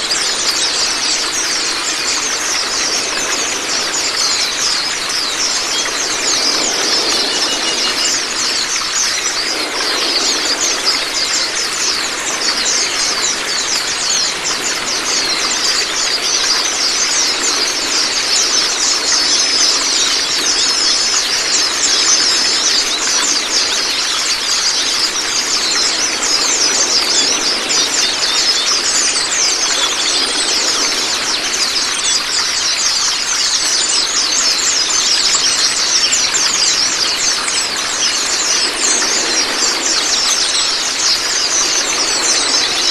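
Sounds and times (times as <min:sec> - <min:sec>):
running water: 0:00.0 - 0:42.9
small birds chirping: 0:00.0 - 0:42.9.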